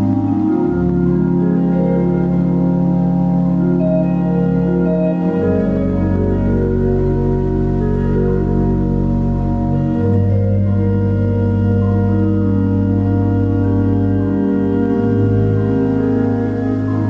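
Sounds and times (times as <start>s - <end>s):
organ sustained chords: 0.0s - 17.0s.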